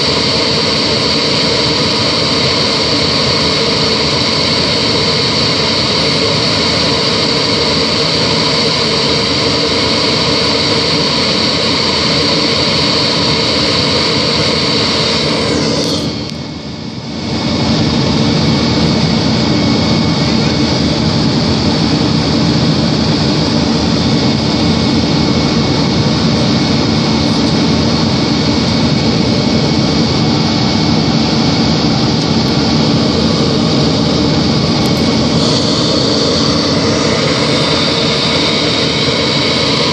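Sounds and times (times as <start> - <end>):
jet engines with turbine whine: 0.0 - 39.9.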